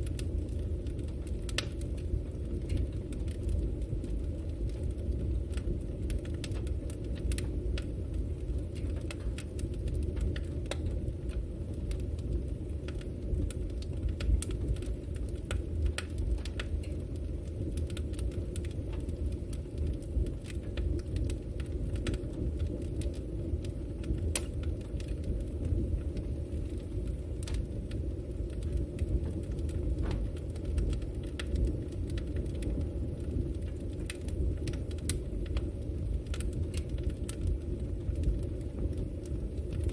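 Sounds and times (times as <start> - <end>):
campfire flames rumbling: 0.0 - 39.9
fire crackling and popping: 0.0 - 39.9.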